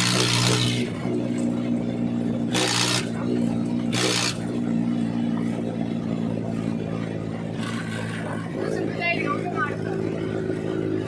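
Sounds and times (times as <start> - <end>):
unmuffled tractor diesel engine: 0.0 - 11.0.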